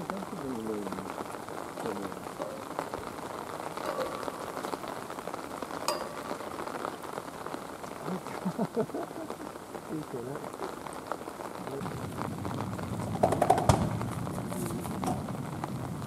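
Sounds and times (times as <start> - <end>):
rain falling and dripping: 0.0 - 16.0.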